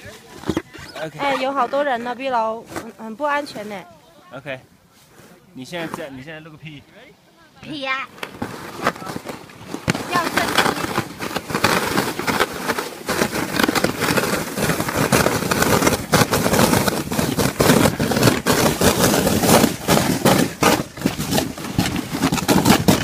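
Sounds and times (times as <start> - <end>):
sled scraping over snow: 0.0 - 6.3, 7.6 - 23.0
sled bumps and jolts: 0.0 - 6.4, 7.6 - 23.0.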